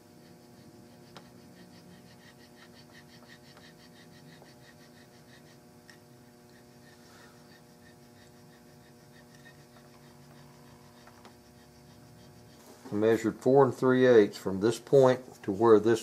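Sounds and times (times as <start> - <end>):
checkering tool rasping on wood: 0.0 - 13.7.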